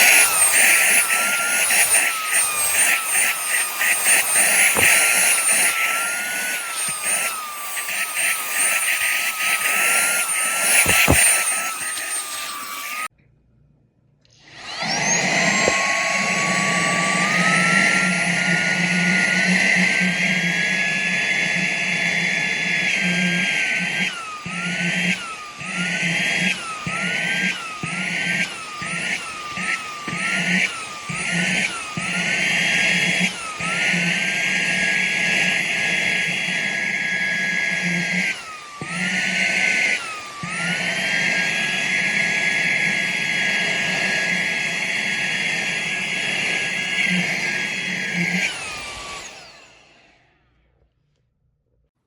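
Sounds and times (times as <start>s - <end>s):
handheld vacuum whining: 0.0s - 13.1s, 14.3s - 51.0s.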